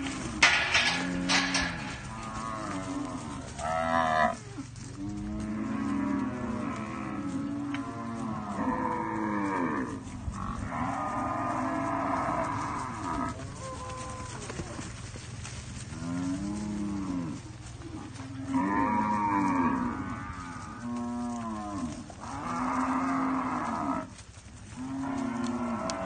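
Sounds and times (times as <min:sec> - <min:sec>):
cattle bawling: 0:00.0 - 0:14.9, 0:15.9 - 0:24.1, 0:24.8 - 0:26.0.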